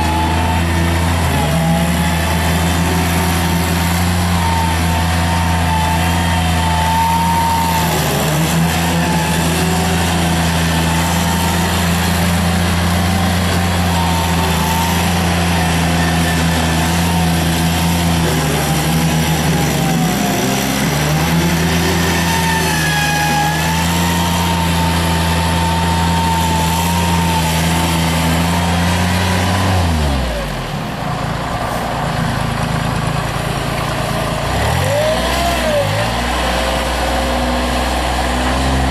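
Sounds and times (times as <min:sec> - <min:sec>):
hydraulic brush cutter whine: 0:00.0 - 0:38.9
loader engine droning: 0:00.0 - 0:38.9.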